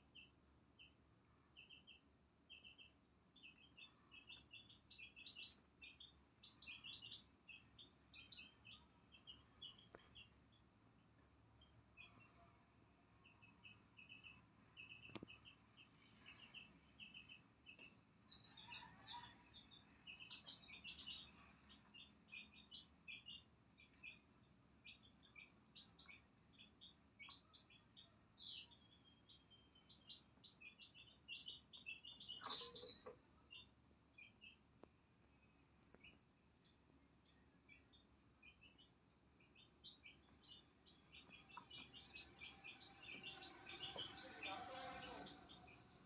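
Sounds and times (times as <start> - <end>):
chicks peeping: 0.0 - 12.4, 13.0 - 46.0.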